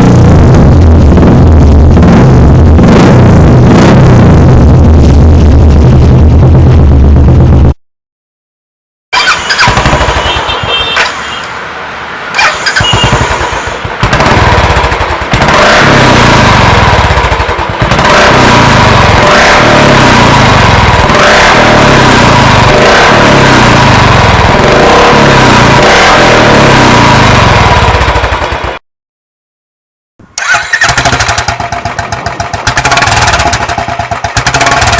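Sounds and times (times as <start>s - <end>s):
motorcycle engine starting and revving: 0.0s - 7.8s, 9.1s - 11.2s, 12.3s - 28.8s, 30.4s - 34.9s.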